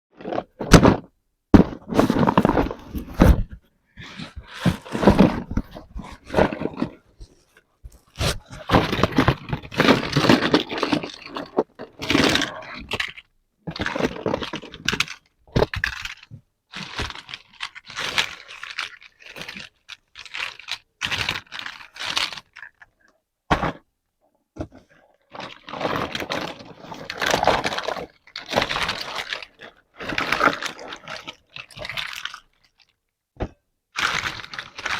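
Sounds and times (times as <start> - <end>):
plastic and cardboard crackling: 0.1 - 22.9, 24.6 - 34.9.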